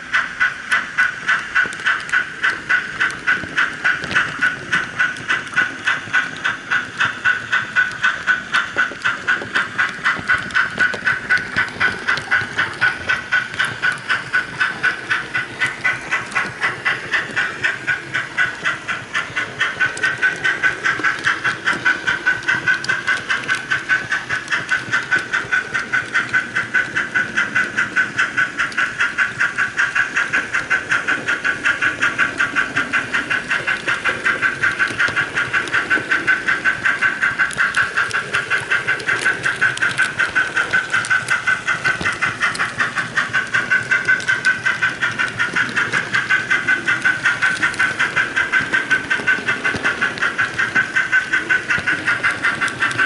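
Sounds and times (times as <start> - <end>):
model train steam chuff: 0.0 - 53.0.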